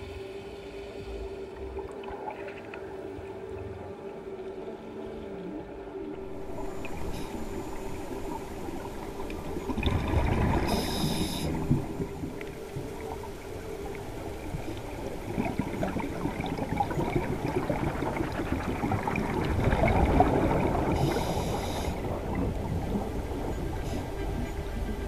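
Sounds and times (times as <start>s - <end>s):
underwater bubbles gurgling: 0.9s - 25.0s.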